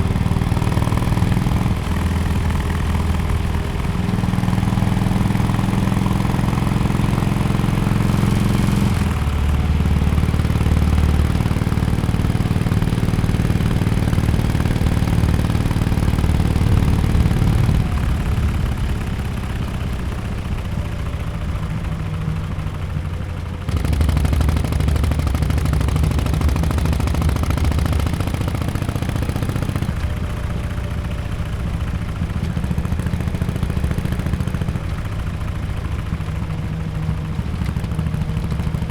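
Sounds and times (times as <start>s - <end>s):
motorcycle engine at low revs: 0.0s - 38.9s.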